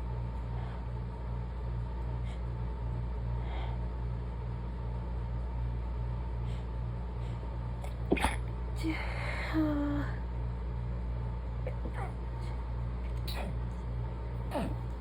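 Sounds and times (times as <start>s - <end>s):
pulsing low mechanical hum: 0.0s - 15.0s.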